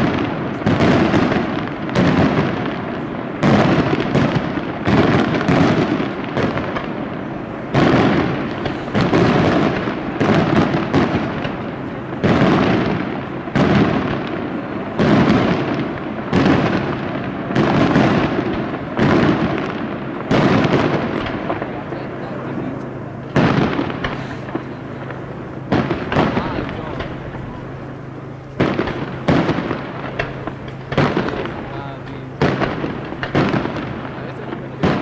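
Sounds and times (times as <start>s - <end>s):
firework shells bursting: 0.0s - 35.0s.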